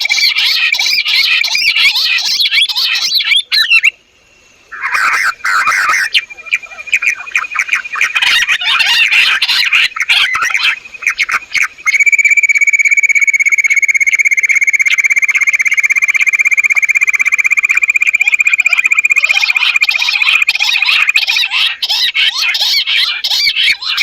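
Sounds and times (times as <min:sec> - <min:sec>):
quail calls: 0:00.0 - 0:04.0, 0:04.7 - 0:24.0.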